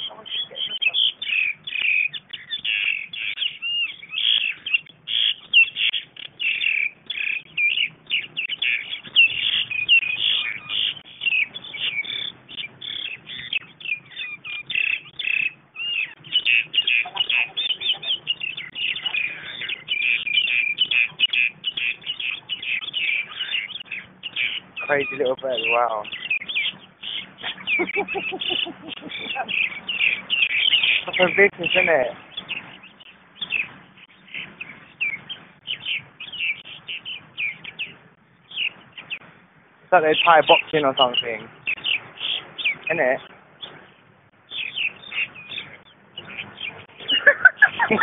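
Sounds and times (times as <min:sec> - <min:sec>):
birds chirping rapidly: 0:00.0 - 0:48.0.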